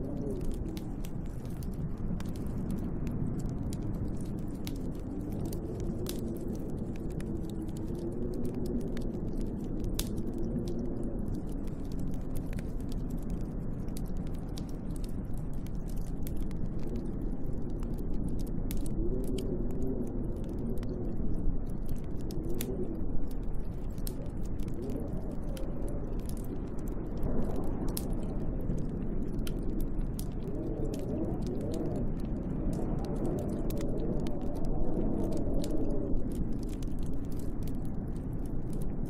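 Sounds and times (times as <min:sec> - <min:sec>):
storm wind howling: 0:00.0 - 0:39.0
wood fire crackling and popping: 0:00.0 - 0:39.0.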